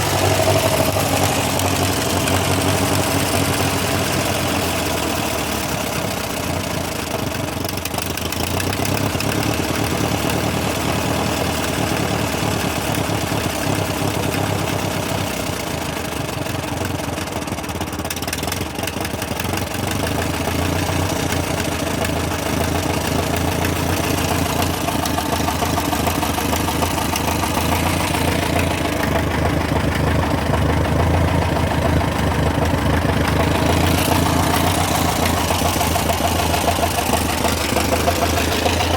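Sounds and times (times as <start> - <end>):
tractor engine running with knocking: 0.0 - 38.9.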